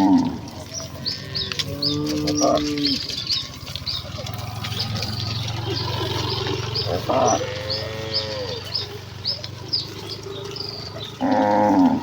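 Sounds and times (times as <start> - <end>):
cattle mooing: 0.0 - 12.0.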